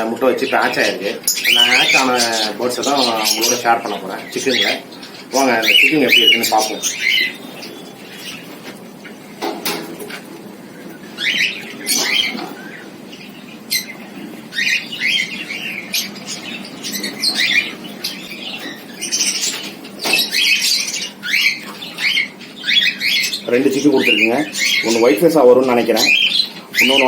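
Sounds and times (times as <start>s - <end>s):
cockatiels chirping and squawking: 0.2s - 27.0s.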